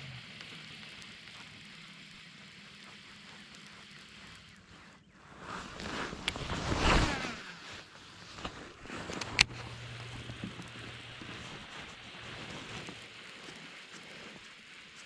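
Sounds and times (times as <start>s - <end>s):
reel low hum: 0.0s - 15.0s
fishing rod handling rustle: 0.8s - 15.0s.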